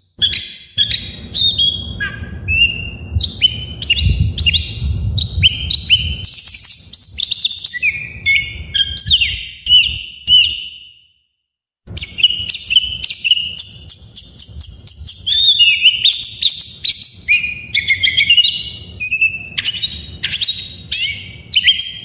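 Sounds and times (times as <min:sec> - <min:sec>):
bird singing chirps and whistles: 0:00.0 - 0:11.1, 0:11.9 - 0:22.0.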